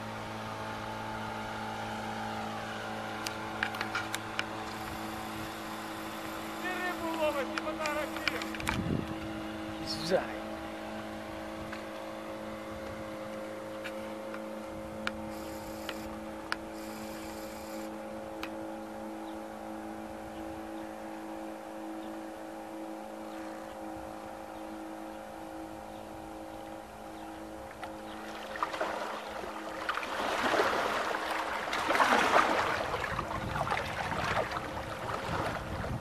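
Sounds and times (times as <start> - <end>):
engine droning steadily: 0.0 - 36.0.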